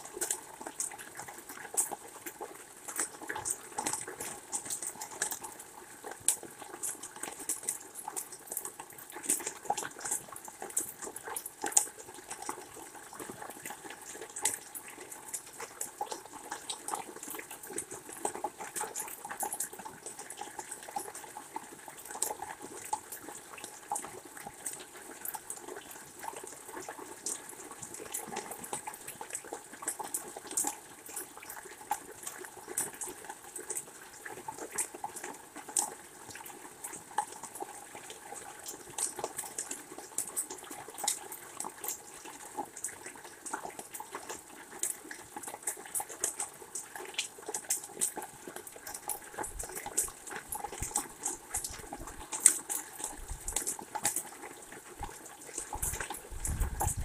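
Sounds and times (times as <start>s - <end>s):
raindrops ticking close by: 0.0s - 57.0s
steady rain falling: 0.0s - 57.0s.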